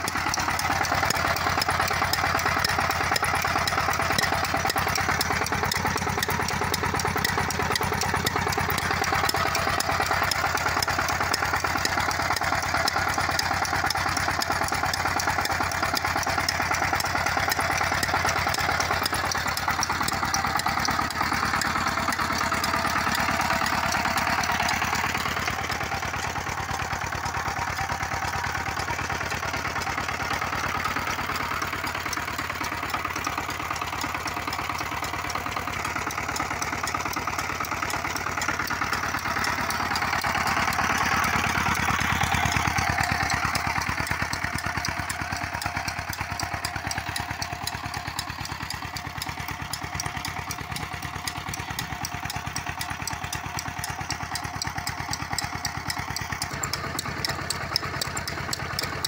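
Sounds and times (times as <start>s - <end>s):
single-cylinder diesel engine running: 0.0s - 59.0s.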